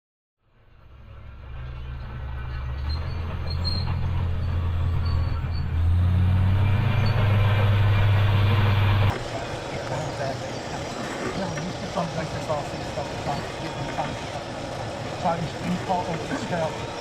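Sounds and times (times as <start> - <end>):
deep engine rumble: 0.5 - 17.0.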